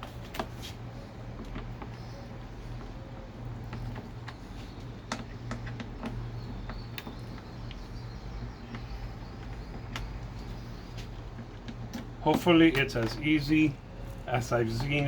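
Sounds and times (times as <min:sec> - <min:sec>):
light clicks and taps: 0:00.1 - 0:13.3.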